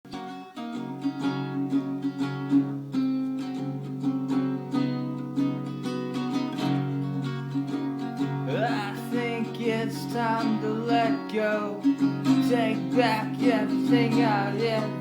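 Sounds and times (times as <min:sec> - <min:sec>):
acoustic guitar strumming: 0:00.1 - 0:15.0.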